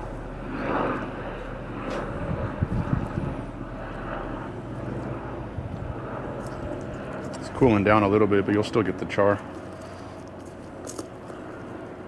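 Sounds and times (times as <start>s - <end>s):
steady low drone: 0.0s - 12.0s.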